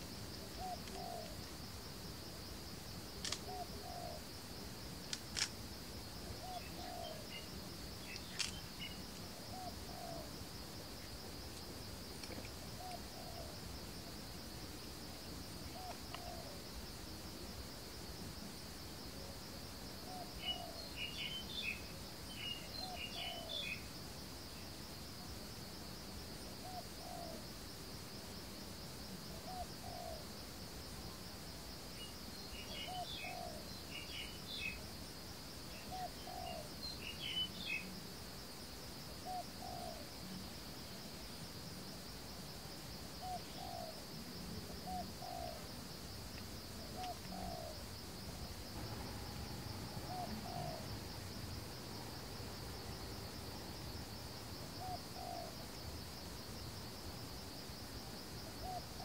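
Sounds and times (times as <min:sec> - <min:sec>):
insect trill: 0:00.0 - 0:59.0.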